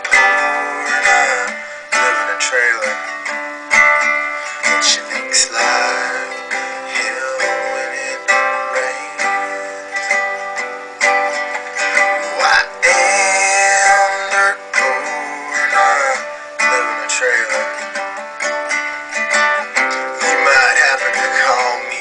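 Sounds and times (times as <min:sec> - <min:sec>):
man singing country song: 0:00.0 - 0:18.6, 0:19.2 - 0:22.0
acoustic guitar strumming: 0:00.0 - 0:22.0.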